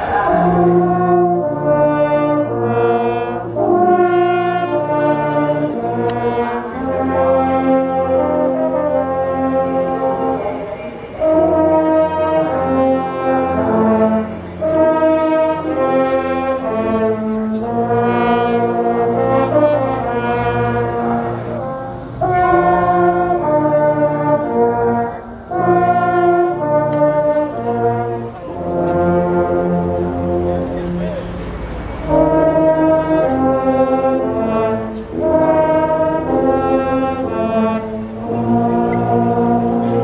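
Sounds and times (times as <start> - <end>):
brass instruments playing melody: 0.0 - 40.0.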